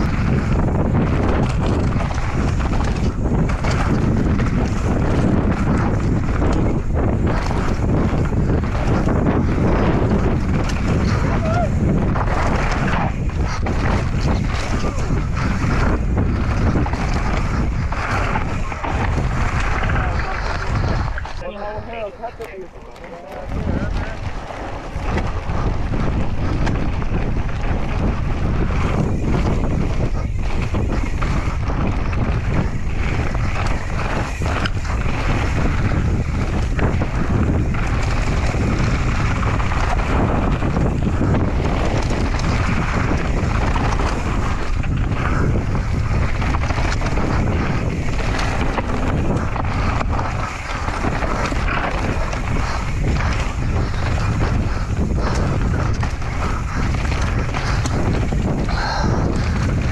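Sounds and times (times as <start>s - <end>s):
bike knocking and clattering: 0.0s - 59.9s
tyres rushing on dirt: 0.0s - 59.9s
wind noise on microphone: 0.0s - 59.9s.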